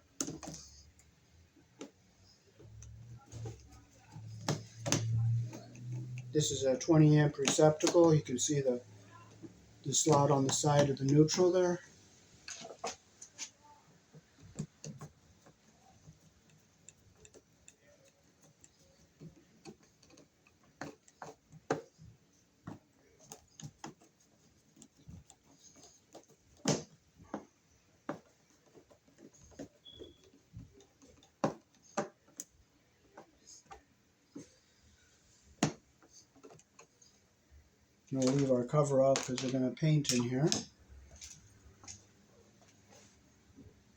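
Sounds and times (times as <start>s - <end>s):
small clicks taps and knocks: 0.0s - 11.8s, 12.4s - 43.9s.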